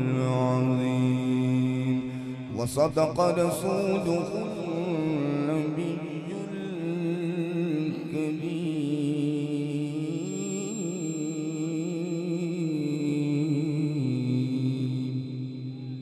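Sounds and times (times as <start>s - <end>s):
man chanting over loudspeaker: 0.0s - 16.0s.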